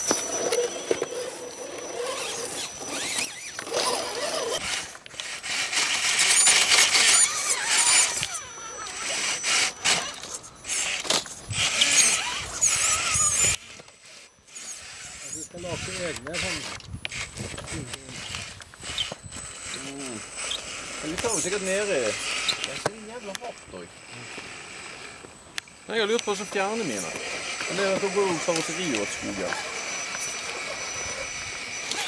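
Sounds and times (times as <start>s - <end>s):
electric motors whining: 0.0s - 32.0s.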